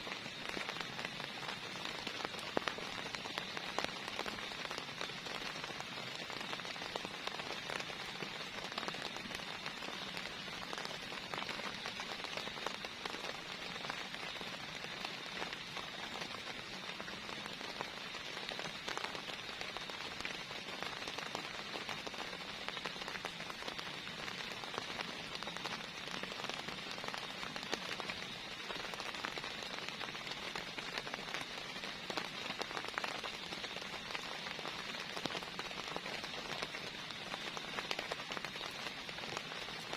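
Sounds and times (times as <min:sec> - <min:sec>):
heavy rain: 0:00.0 - 0:39.9
raindrops ticking: 0:00.0 - 0:39.9.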